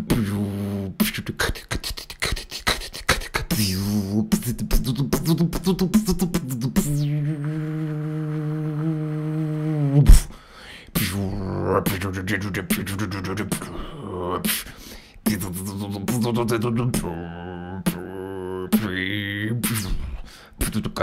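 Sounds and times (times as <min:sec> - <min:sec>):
man beatboxing: 0:00.0 - 0:21.0.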